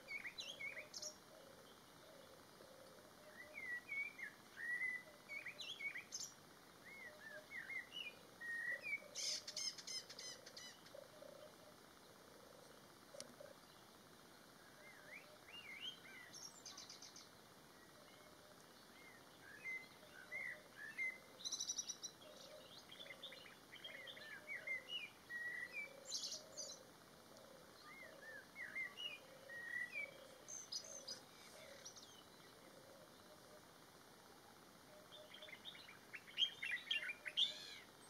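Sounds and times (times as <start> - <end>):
blackbird singing: 0.0 - 13.9, 14.6 - 33.7, 34.9 - 38.0.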